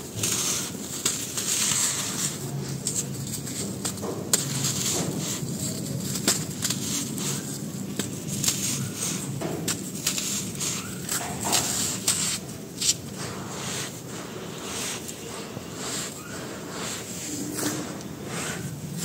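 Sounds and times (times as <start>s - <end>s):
hands crushing dry cement lumps: 0.0s - 19.0s.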